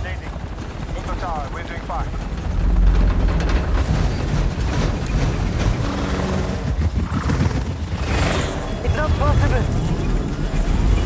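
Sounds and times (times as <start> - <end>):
helicopter rotor beat: 0.0 - 11.0.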